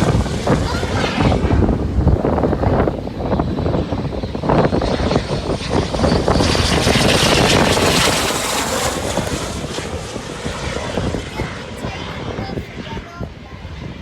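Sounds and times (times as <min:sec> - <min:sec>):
jet engine rushing past: 0:00.0 - 0:14.0.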